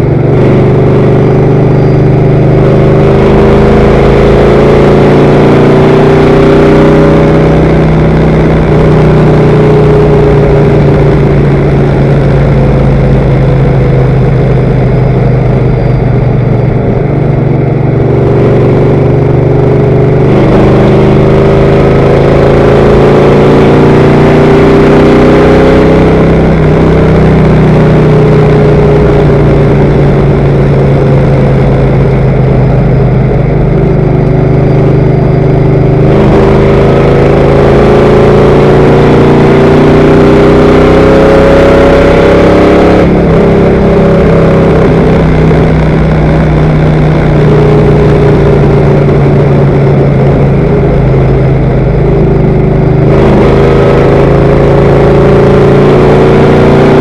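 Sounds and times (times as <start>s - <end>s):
race car engine at high revs: 0.0s - 57.0s
wind and road noise: 0.0s - 57.0s.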